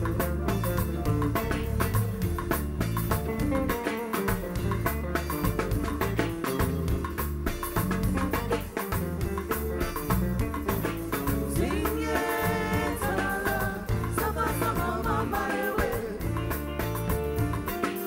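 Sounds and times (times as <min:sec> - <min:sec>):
bass and drums: 0:00.0 - 0:18.0
electric guitar: 0:00.0 - 0:18.0.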